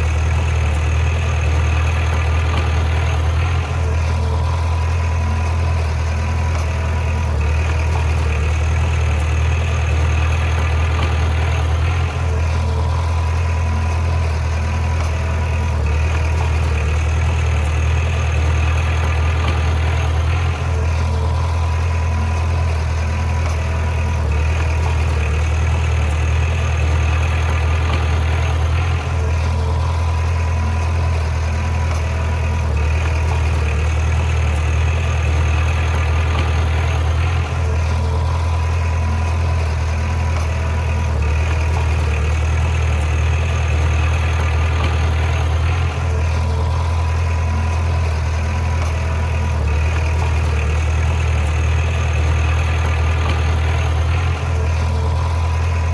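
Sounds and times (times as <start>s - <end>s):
bulldozer diesel engine droning: 0.0s - 55.9s.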